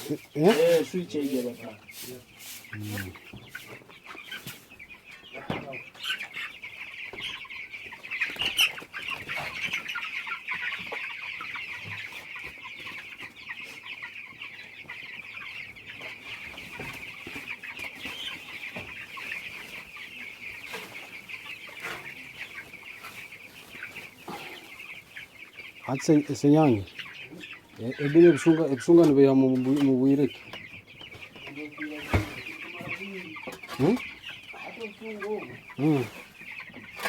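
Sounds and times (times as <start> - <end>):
chicks peeping: 0.0 - 37.0.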